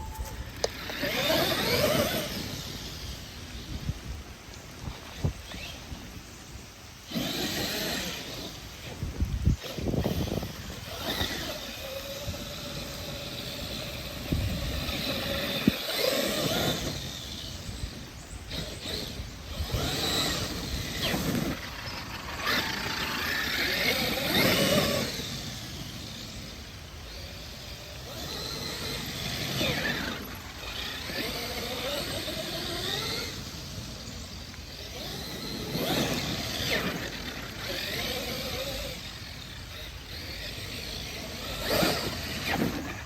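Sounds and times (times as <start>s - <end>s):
toy truck electric motor whining: 0.0s - 4.0s, 4.8s - 6.1s, 7.0s - 43.0s.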